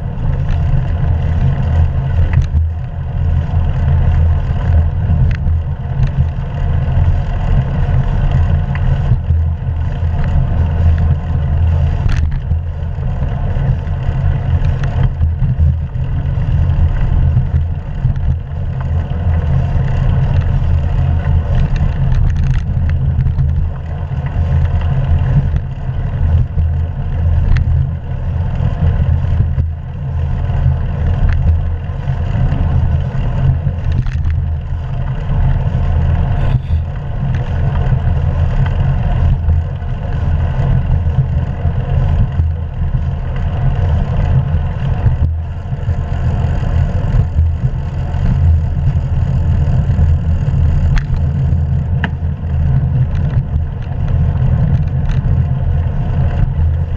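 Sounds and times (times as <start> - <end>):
road noise: 0.0 - 56.9
wind rumble: 0.0 - 56.9.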